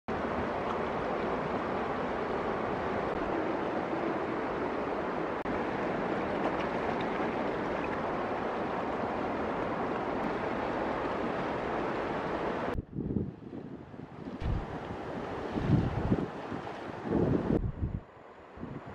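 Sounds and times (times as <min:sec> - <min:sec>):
river water rushing: 0:00.1 - 0:12.8, 0:14.4 - 0:17.4.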